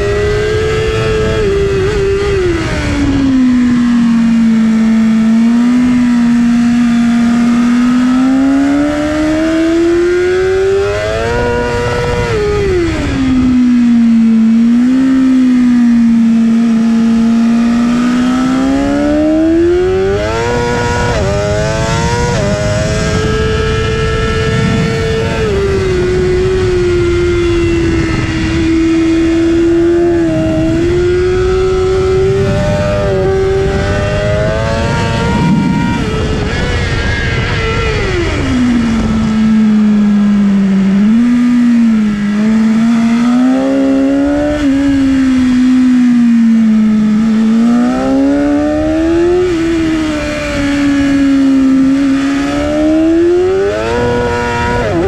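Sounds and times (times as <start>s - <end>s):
motorcycle engine revving: 0.0s - 55.0s
wind rush on microphone: 0.0s - 55.0s.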